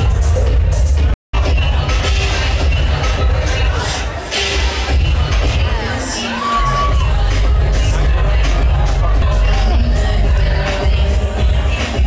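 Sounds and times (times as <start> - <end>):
loud bass-heavy music: 0.0 - 12.0.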